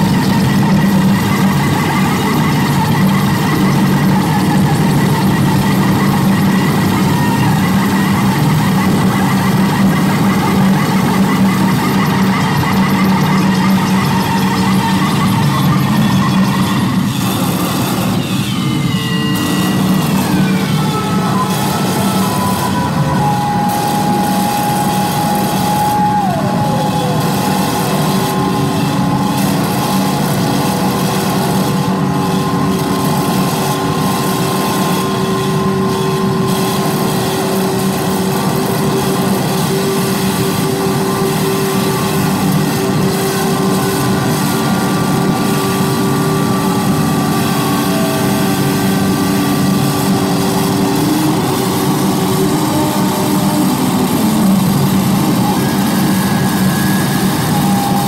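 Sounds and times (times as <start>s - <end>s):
droning tones: 0.0s - 58.0s
high tone sliding down: 0.0s - 58.0s
loud electronic noise wall: 0.0s - 58.0s.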